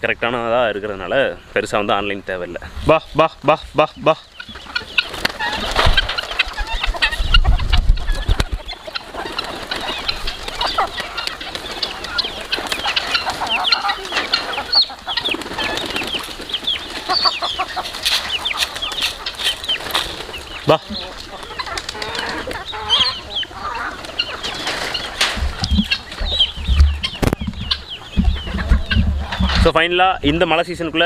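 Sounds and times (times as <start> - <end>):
chickens clucking: 0.0 - 31.0
wings flapping: 4.5 - 29.8.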